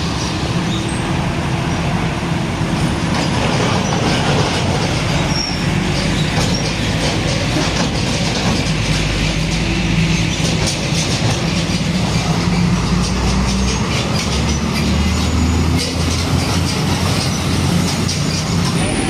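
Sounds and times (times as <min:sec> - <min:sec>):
diesel truck engine drone: 0:00.0 - 0:19.0
road and rattling noise: 0:00.0 - 0:19.0.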